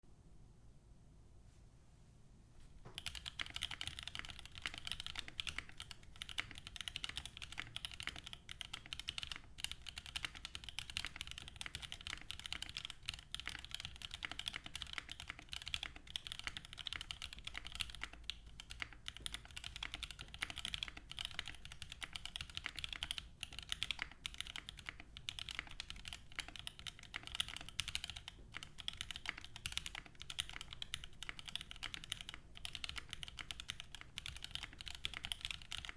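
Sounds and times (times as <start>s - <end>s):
mechanical keyboard typing: 2.9s - 35.9s.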